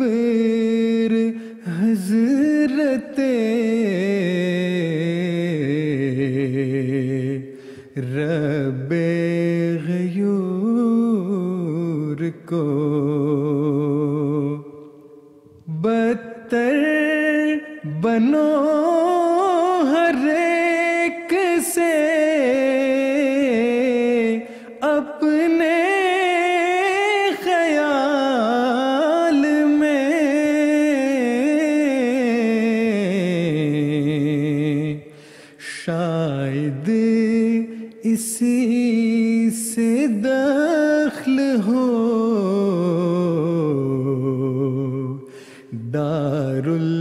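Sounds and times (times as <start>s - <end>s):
man singing with vibrato: 0.0s - 47.0s.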